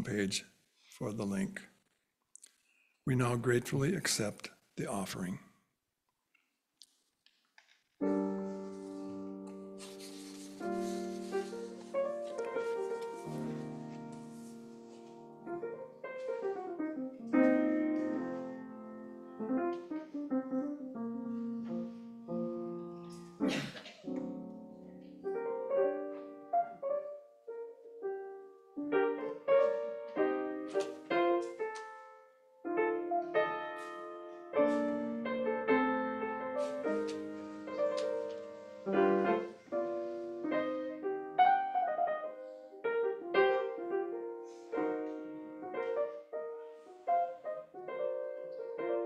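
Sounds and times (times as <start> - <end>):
solo piano: 8.0 - 49.0.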